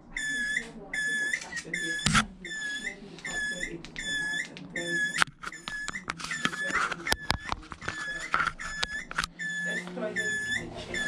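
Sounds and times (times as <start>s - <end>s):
toilet fill valve squeaking: 0.0s - 11.0s.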